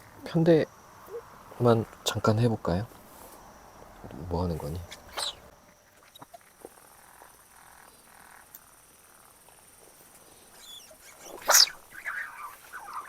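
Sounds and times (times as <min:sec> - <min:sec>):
frog calls: 0:00.0 - 0:02.4, 0:03.7 - 0:09.7, 0:10.3 - 0:13.0
insect trill: 0:00.0 - 0:13.0.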